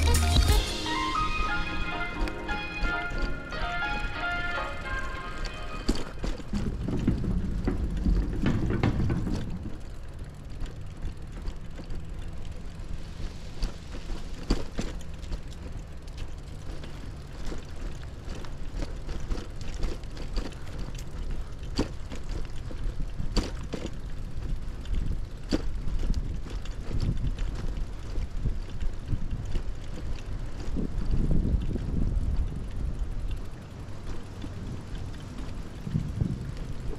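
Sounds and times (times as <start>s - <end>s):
bicycle clicks and rattles: 0.0s - 36.9s
bicycle tyres and wind rumble: 0.0s - 36.9s.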